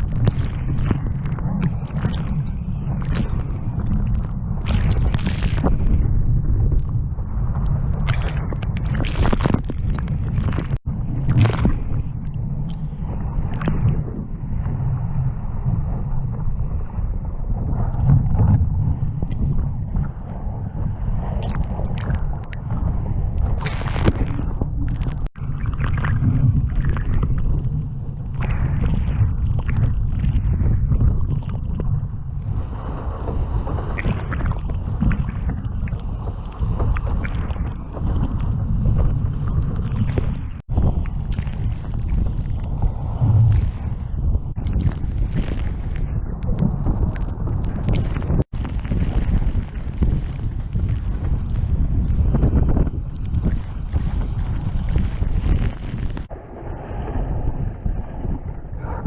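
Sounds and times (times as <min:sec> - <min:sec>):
water splashing: 0:00.0 - 0:14.4, 0:21.2 - 0:27.7, 0:32.6 - 0:59.0
wind buffeting microphone: 0:00.0 - 0:59.0.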